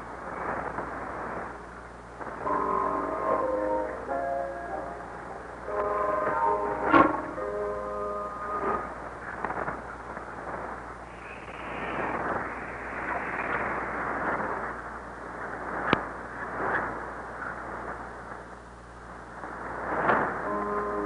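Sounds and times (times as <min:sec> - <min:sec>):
crackling static crashes: 0:00.0 - 0:21.0
shortwave radio static hiss: 0:00.0 - 0:21.0.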